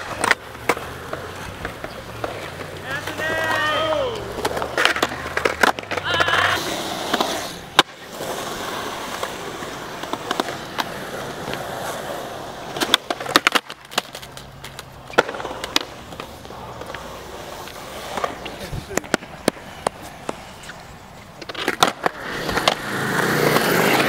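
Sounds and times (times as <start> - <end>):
skateboard clacking on concrete: 0.0 - 24.0
skateboard wheels rolling on concrete: 0.0 - 24.0.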